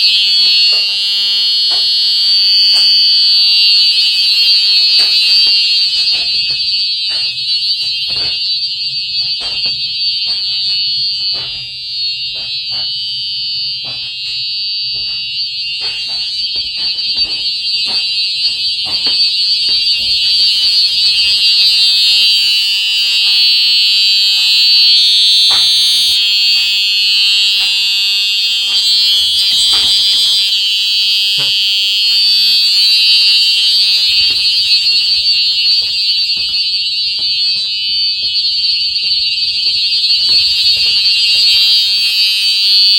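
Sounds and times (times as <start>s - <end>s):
high-pitched alarm horn tone: 0.0s - 42.9s.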